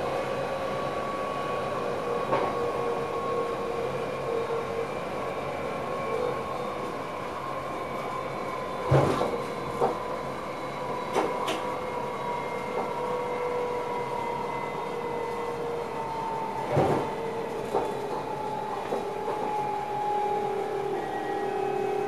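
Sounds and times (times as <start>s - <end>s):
electric train drive whine: 0.0s - 22.0s
train rumbling: 0.0s - 22.0s.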